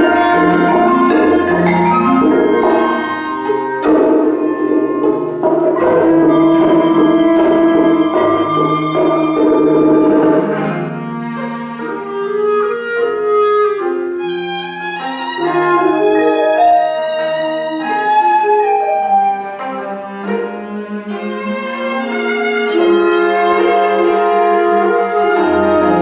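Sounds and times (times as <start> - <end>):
cello: 0.0 - 26.0
chamber ensemble held notes: 0.0 - 26.0
clarinet: 0.0 - 26.0
violin: 0.0 - 26.0.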